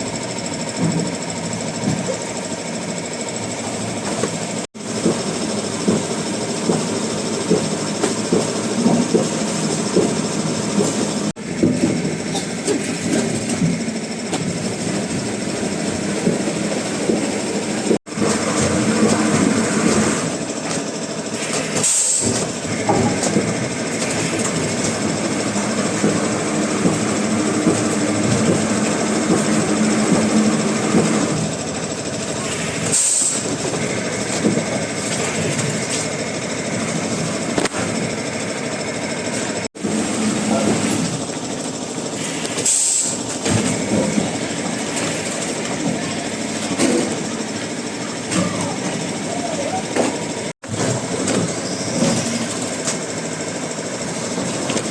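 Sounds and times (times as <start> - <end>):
woodworking machinery clattering: 0.0 - 54.9.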